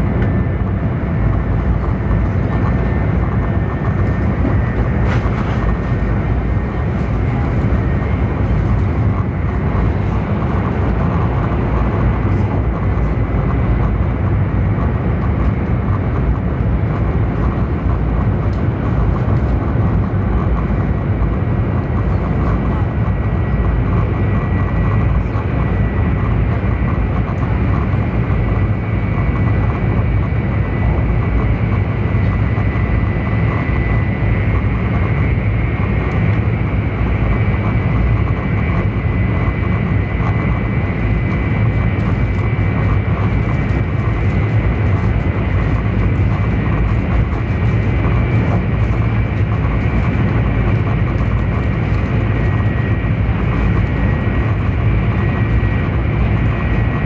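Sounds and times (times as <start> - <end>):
train running low rumble: 0.0 - 57.0.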